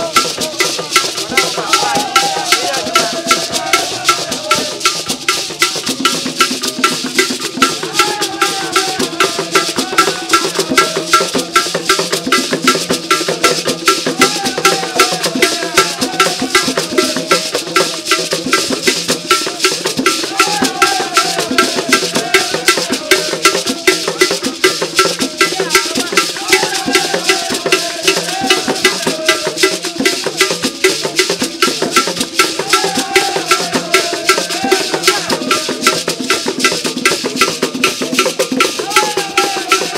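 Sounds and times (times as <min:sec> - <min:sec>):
hand drums: 0:00.0 - 0:39.9
voices singing: 0:00.0 - 0:39.9.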